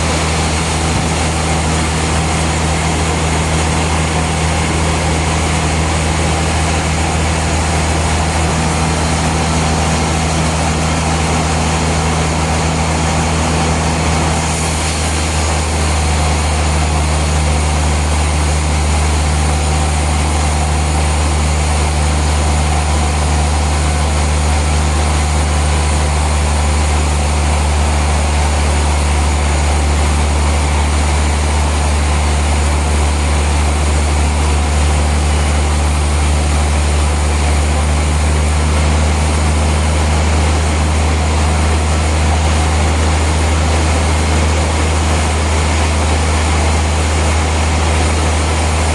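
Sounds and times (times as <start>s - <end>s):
sawmill machinery drone: 0.0s - 48.9s.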